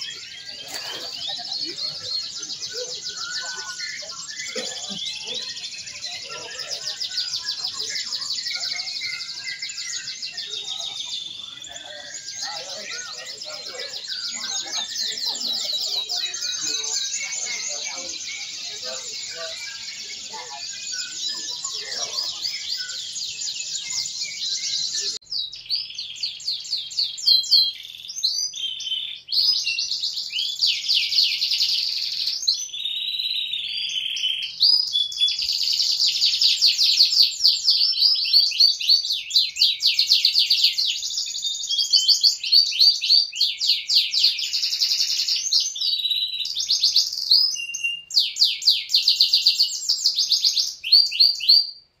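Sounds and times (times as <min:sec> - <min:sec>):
canaries singing: 0:00.0 - 0:52.0.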